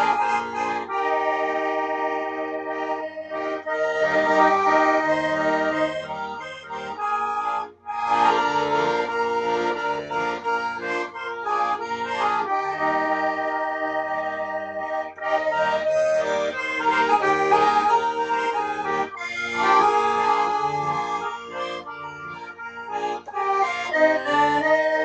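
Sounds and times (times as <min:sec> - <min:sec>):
accordion music: 0:00.0 - 0:25.0.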